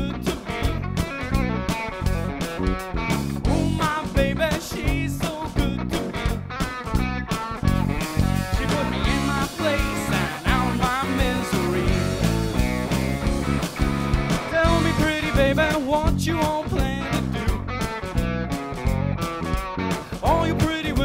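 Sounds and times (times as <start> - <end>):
rock band playing: 0.0 - 21.0
wavering electric guitar lines: 0.0 - 21.0.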